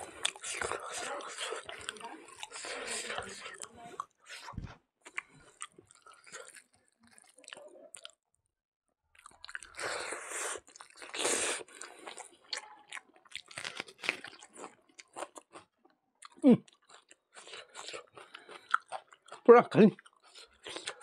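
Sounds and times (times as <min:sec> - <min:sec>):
wet chewing and crunching: 0:00.0 - 0:08.2, 0:09.1 - 0:21.0.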